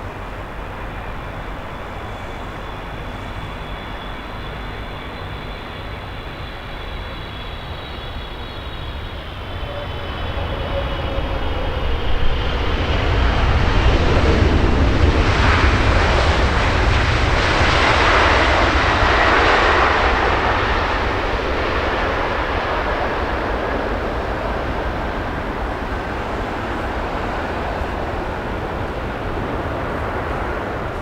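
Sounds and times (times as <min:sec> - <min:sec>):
jet airliner passing low: 0:00.0 - 0:31.0.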